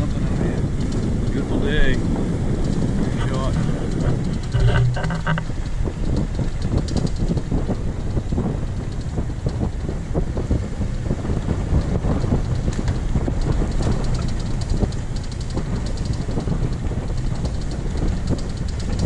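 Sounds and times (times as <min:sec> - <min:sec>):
stones crackling under tyres: 0:00.0 - 0:19.0
tyres and engine rumbling: 0:00.0 - 0:19.0
wind noise on microphone: 0:00.0 - 0:19.0.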